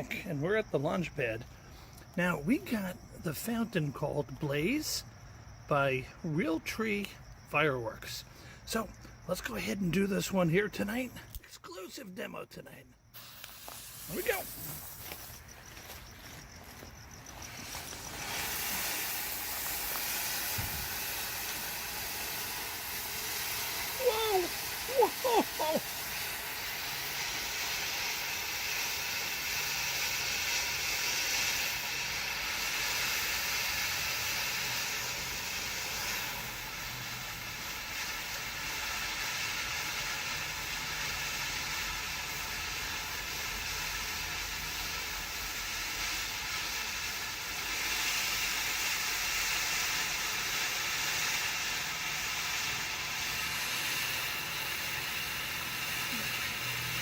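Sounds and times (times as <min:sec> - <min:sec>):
firework fountain hissing sparks: 0:00.0 - 0:57.0.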